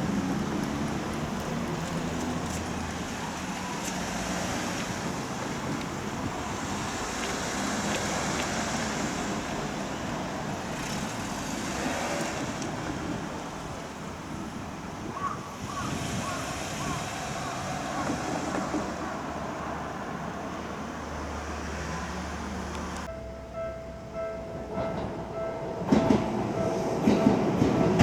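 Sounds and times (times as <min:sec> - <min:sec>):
cars and trucks passing: 0:00.0 - 0:28.0.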